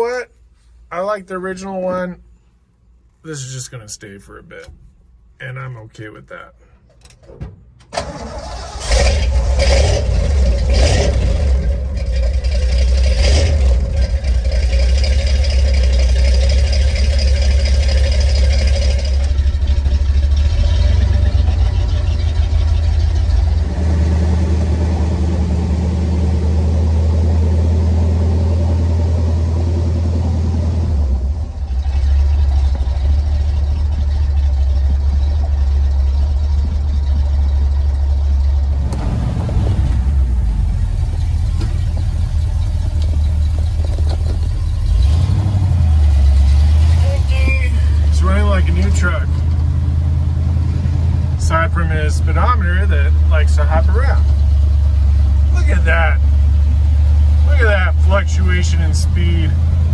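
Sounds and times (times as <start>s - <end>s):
engine blips: 8.0s - 59.9s
pickup truck engine running: 8.3s - 59.9s.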